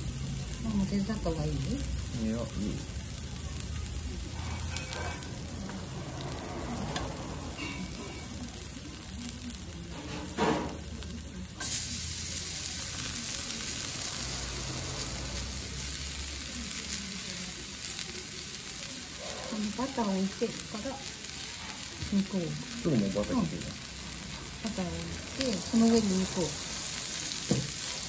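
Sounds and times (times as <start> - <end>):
vegetables sizzling on griddle: 0.0 - 28.0.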